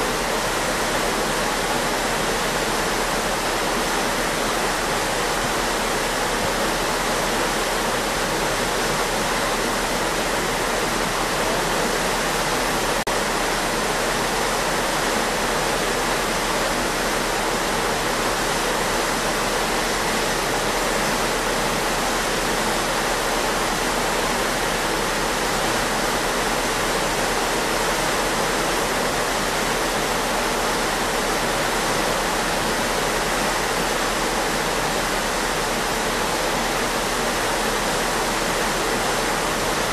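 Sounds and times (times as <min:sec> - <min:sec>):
water churning in ship wake: 0:00.0 - 0:39.9.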